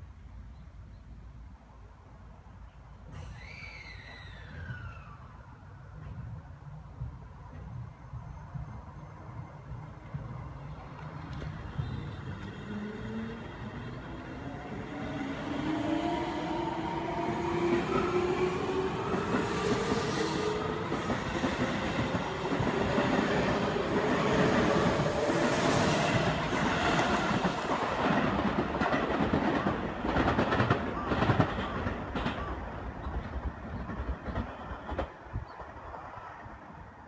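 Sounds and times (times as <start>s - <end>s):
train wheel rumble: 5.9s - 36.6s.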